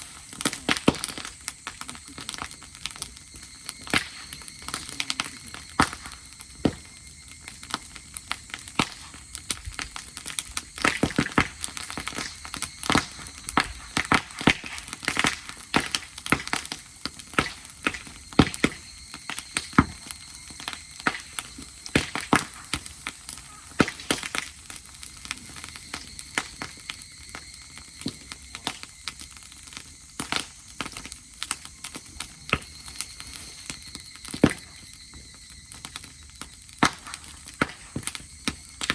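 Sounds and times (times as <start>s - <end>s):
dry grass fire crackling: 0.0s - 38.9s.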